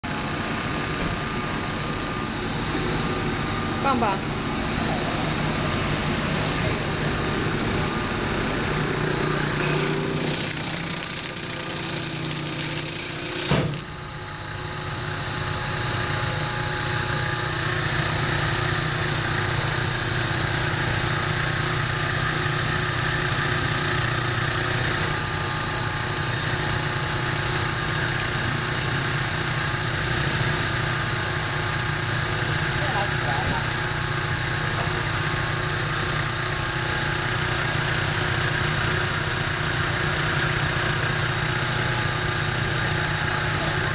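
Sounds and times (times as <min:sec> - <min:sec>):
slicing machine humming: 0:00.0 - 0:43.9.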